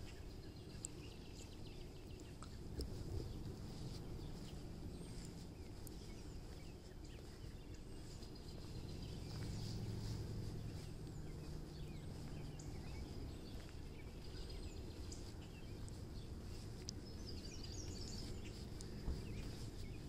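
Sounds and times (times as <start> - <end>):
low steady rumble: 0.0 - 20.0
small birds chirping: 0.0 - 20.0.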